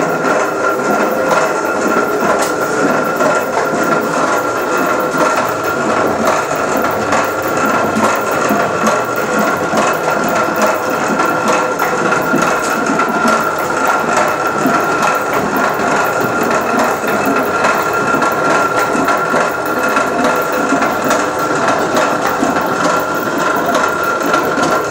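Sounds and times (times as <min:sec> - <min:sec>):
windmill gearing clatter: 0:00.0 - 0:24.9.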